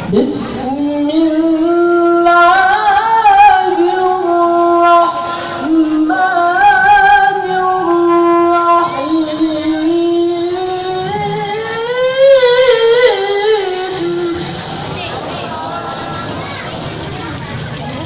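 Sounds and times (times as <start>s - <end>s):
child reciting melodically: 1.2s - 17.6s.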